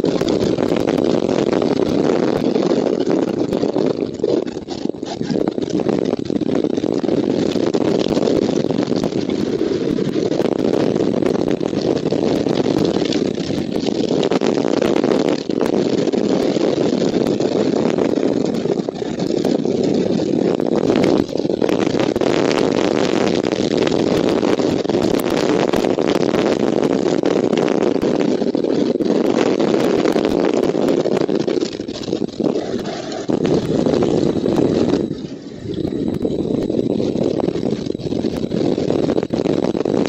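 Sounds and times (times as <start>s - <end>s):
strong wind on microphone: 0.0s - 40.0s.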